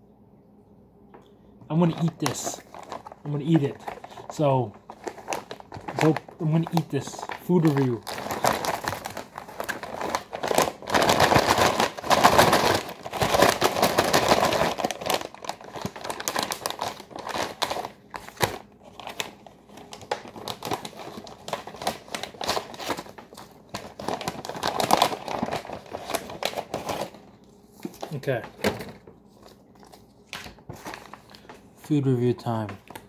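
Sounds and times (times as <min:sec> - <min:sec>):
plastic pouch crinkling: 0:01.8 - 0:28.6.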